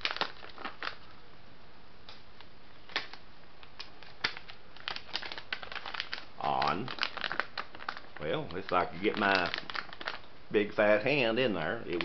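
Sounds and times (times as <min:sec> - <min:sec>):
plastic bag crinkling: 0:00.0 - 0:01.3, 0:02.4 - 0:10.4, 0:11.0 - 0:12.0.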